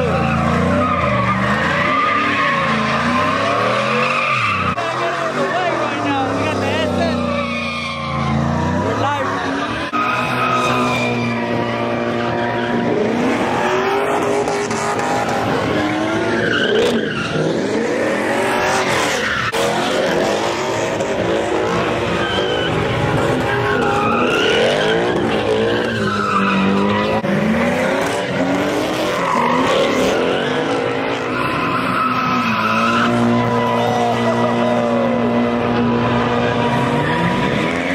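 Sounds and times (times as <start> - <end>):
tyres squealing: 0.0 - 20.7, 21.6 - 37.9
car engines revving: 0.0 - 37.9.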